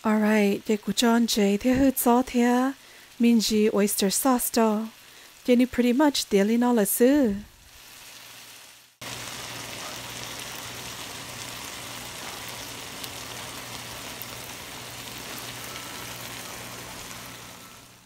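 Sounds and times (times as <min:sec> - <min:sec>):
food sizzling in hot pan: 0:00.0 - 0:18.0.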